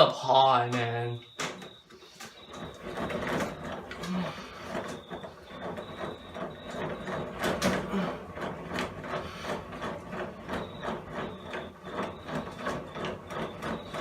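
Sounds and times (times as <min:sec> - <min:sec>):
hand crank gearing rattling: 0:01.6 - 0:14.0.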